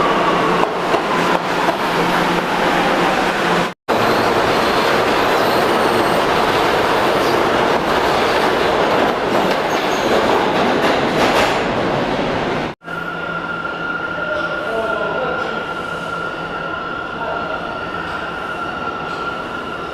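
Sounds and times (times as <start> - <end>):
subway train rumbling on rails: 0.0 - 19.9.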